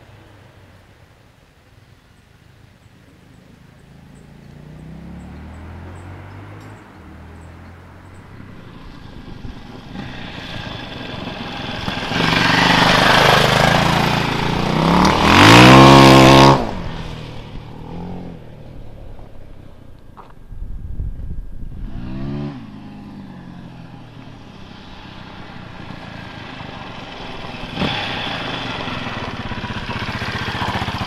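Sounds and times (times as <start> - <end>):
motorcycle engine revving past: 3.9 - 19.8, 21.1 - 31.0.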